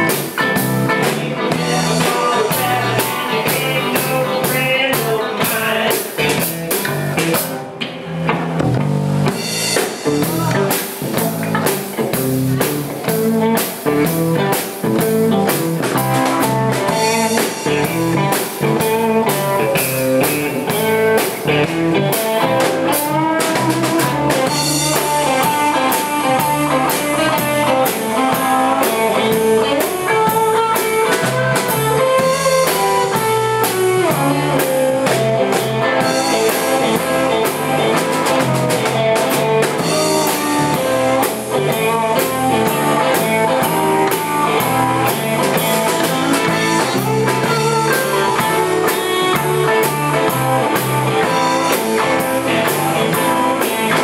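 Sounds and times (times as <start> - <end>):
drum kit beat: 0.0 - 54.0
electric guitar through amplifier: 0.0 - 54.0.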